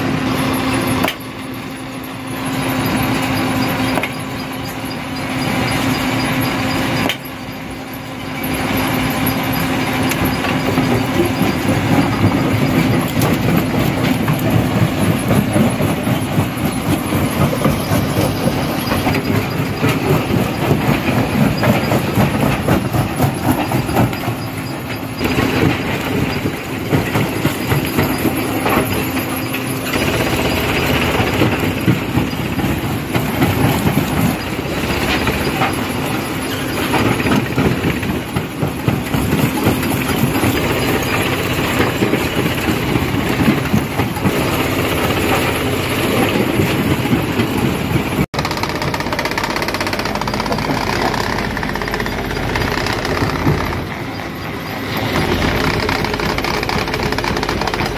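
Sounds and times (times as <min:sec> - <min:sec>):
stone crusher crushing rocks: 0:02.4 - 0:57.9.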